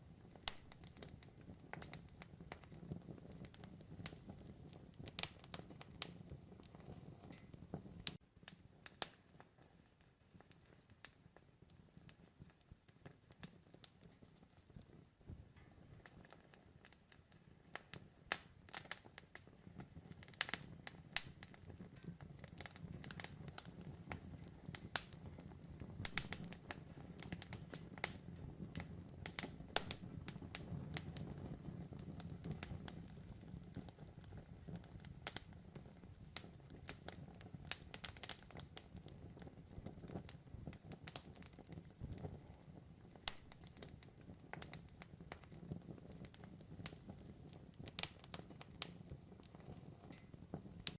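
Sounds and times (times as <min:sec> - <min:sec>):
campfire crackling: 0:00.0 - 0:50.9
low rumble of flames: 0:00.0 - 0:50.9
burning wood popping: 0:00.1 - 0:50.9.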